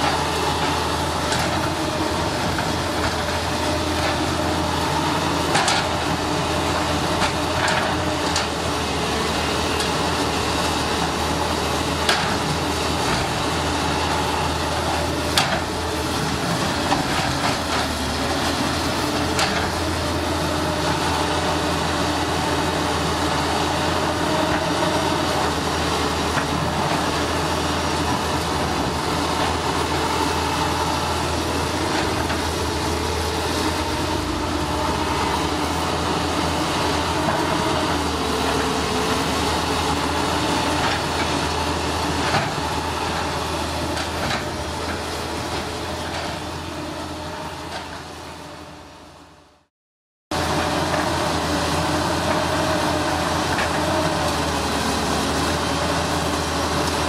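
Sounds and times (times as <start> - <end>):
bulldozer diesel engine running: 0.0 - 49.7, 50.3 - 57.0.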